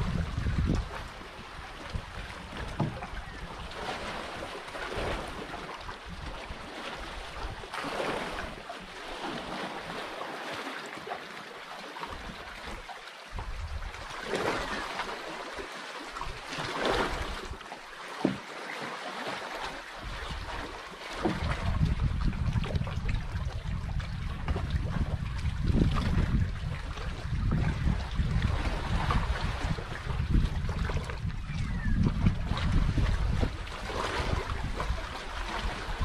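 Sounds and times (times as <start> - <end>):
paddle swishing through water: 0.0 - 36.0
sea water lapping against canoe: 0.0 - 36.0.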